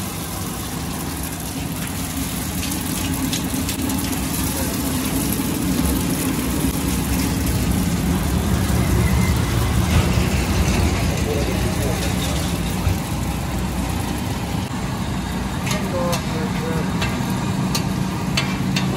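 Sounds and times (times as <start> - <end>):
eggs sizzling on griddle: 0.0 - 18.9.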